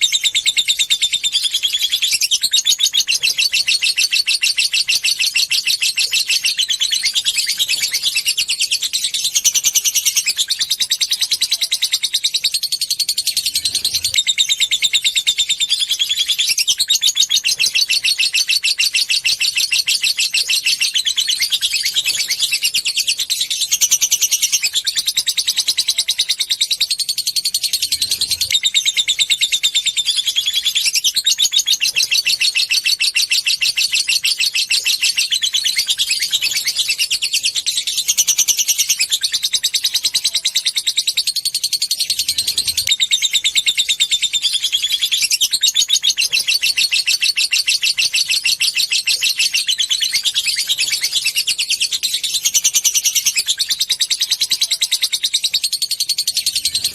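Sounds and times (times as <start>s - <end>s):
lovebird chattering: 0.0s - 56.9s.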